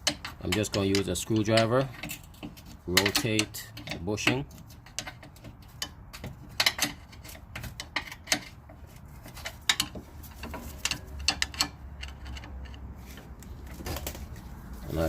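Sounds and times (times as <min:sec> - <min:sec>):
screwdriver scraping and clicking: 0:00.0 - 0:13.7.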